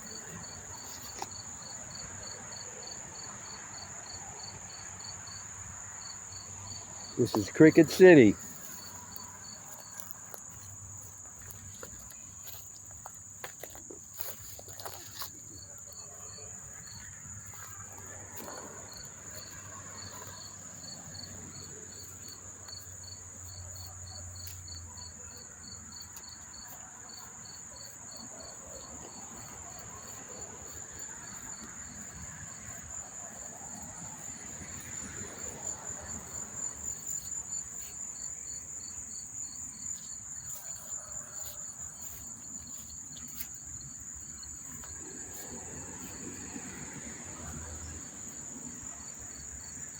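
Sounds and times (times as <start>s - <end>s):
crickets trilling: 0.0s - 49.9s
slow cricket chirps: 0.0s - 49.9s.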